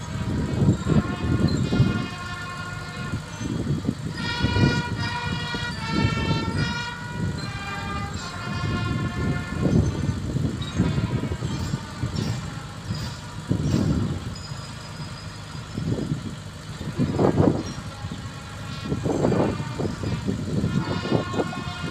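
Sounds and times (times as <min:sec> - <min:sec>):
gusting low rumble: 0:00.0 - 0:21.9
horn-like held notes: 0:00.0 - 0:21.9.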